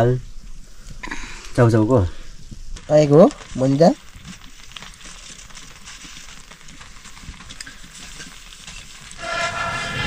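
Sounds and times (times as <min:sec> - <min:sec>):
soup sizzling over fire: 0:00.0 - 0:10.0.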